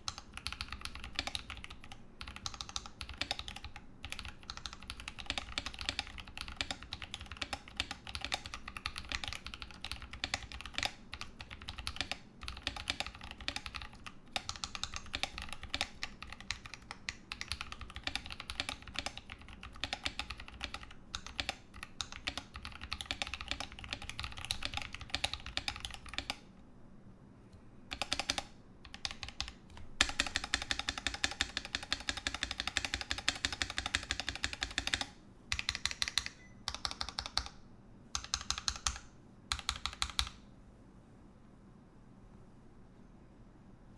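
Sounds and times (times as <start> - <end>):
fast mechanical keyboard typing: 0.0 - 26.4, 27.9 - 40.4.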